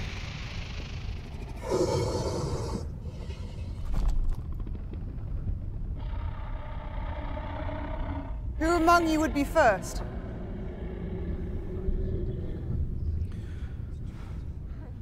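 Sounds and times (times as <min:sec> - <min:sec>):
deep rumbling growl: 0:00.0 - 0:15.0.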